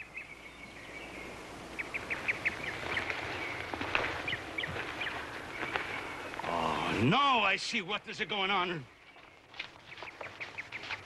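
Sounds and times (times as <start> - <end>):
bird chirping: 0.0 - 11.0
faint outdoor hiss: 0.0 - 11.0.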